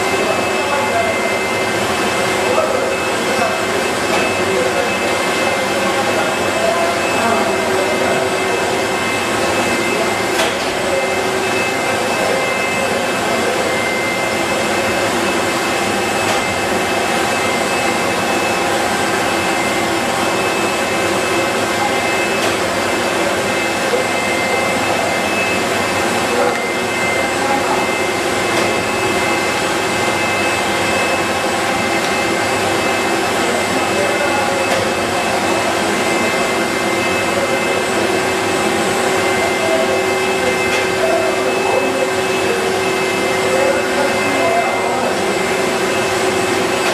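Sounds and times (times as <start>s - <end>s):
high-pitched machine whines: 0.0s - 46.9s.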